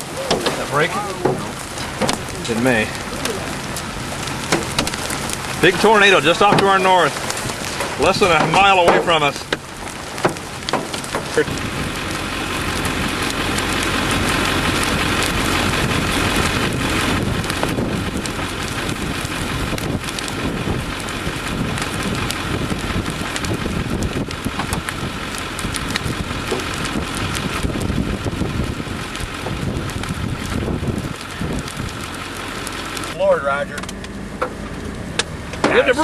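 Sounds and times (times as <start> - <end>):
heavy rain on vehicle roof: 0.0 - 36.0.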